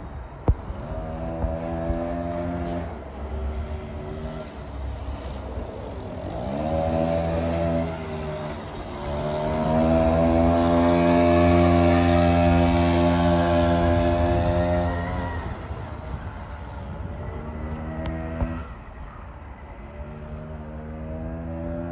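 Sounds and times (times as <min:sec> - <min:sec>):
small gas engine revving: 0:00.0 - 0:21.9.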